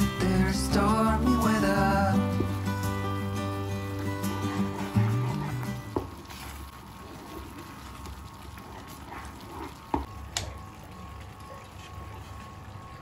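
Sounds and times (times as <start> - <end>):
cheese sauce simmering and squelching: 0.0 - 13.0.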